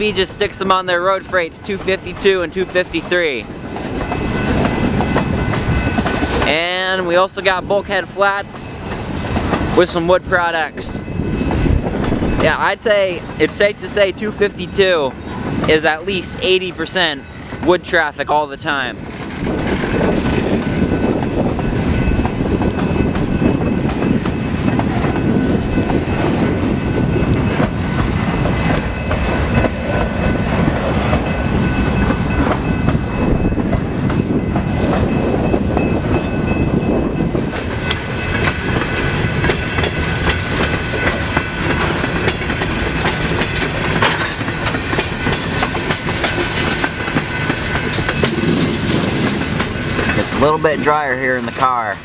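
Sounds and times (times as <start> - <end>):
freight train wheels clacking: 0.0 - 52.0.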